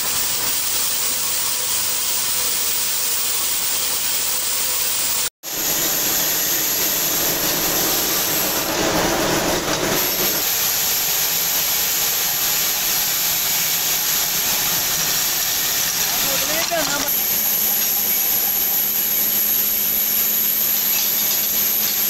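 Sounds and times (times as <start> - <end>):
bolt-making machine running: 0.0 - 22.0.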